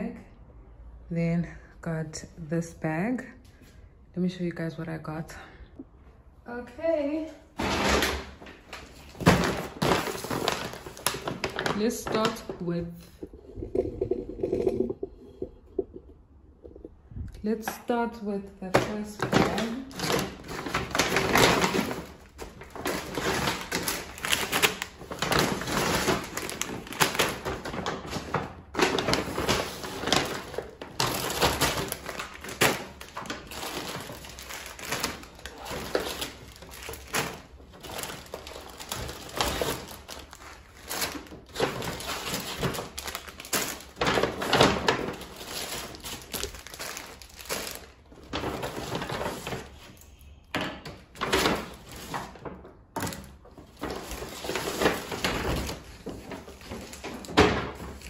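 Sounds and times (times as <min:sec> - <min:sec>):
paper and plastic rustling: 0:07.5 - 0:16.0, 0:17.4 - 0:58.0.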